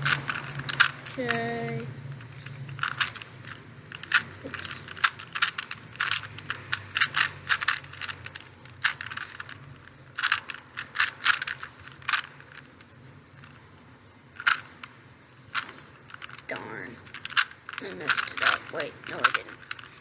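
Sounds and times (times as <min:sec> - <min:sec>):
puzzle cube clicking turns: 0:00.0 - 0:20.0.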